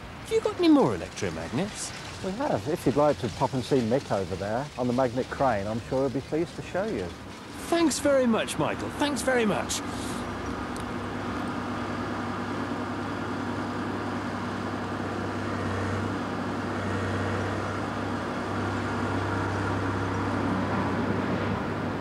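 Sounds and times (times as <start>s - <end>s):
crane engine droning: 0.0s - 22.0s.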